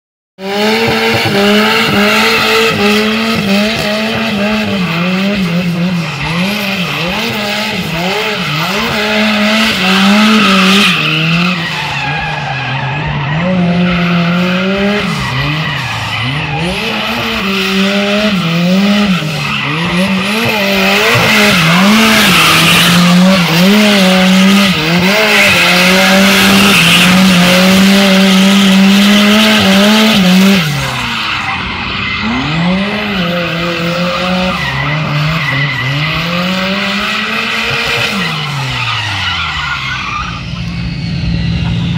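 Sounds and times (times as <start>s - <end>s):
car engine revving: 0.4s - 41.9s
tyres screeching on asphalt: 0.4s - 41.9s.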